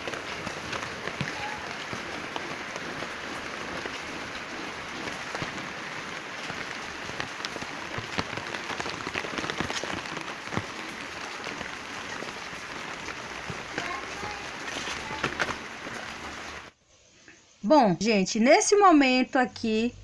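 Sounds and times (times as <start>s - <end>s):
rain hissing on plants: 0.0s - 16.8s
raindrops tapping: 0.0s - 16.8s.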